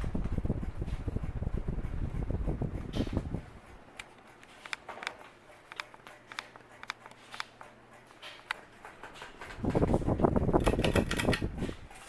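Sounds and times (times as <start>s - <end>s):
ceiling fan humming and clicking: 0.0s - 12.0s.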